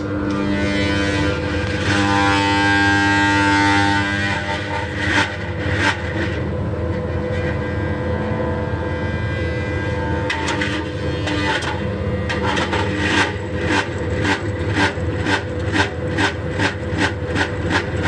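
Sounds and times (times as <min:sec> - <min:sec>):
squealing whine: 0:00.0 - 0:17.3
exhaust fan hum: 0:00.0 - 0:18.0.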